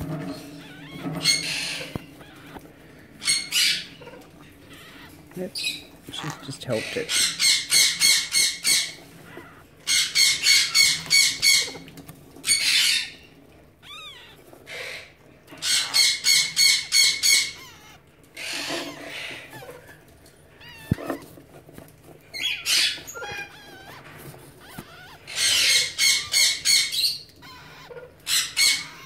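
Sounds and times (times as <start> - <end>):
parakeet squawking: 0.0 - 11.8, 12.4 - 13.2, 13.8 - 21.4, 22.3 - 29.0.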